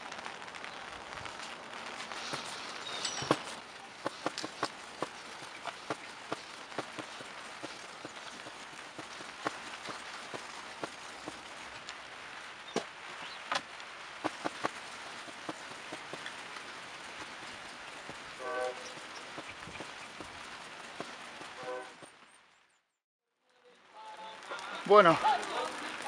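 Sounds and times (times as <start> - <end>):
raindrops tapping: 0.0 - 22.2, 24.4 - 26.0
rain hiss: 0.0 - 22.6, 23.6 - 26.0.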